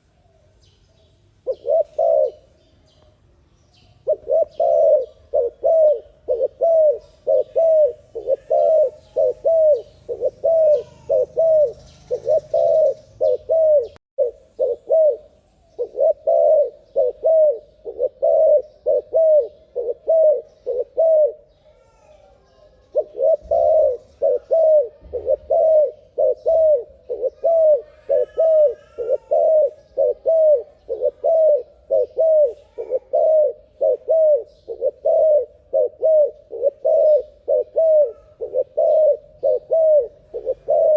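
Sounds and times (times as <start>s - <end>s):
dove cooing: 1.4s - 2.6s, 4.0s - 40.9s.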